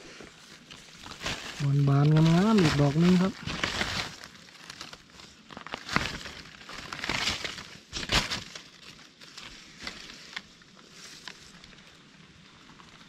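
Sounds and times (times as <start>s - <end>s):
dry leaves and twigs crunching: 0.0s - 13.0s.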